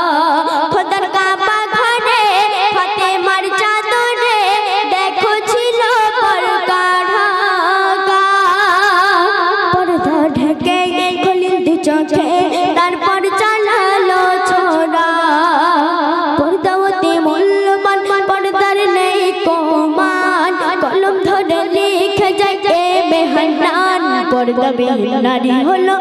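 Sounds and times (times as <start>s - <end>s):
person singing devotional song: 0.0s - 26.0s.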